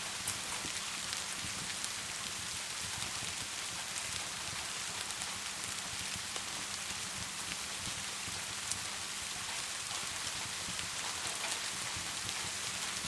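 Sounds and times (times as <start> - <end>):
steady rain-like hiss: 0.0 - 13.0
wood fire crackling: 0.0 - 13.0.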